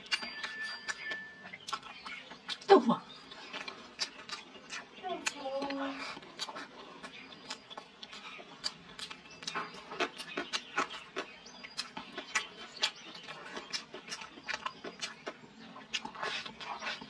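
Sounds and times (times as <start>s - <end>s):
chewing and mouth smacks: 0.0s - 17.0s.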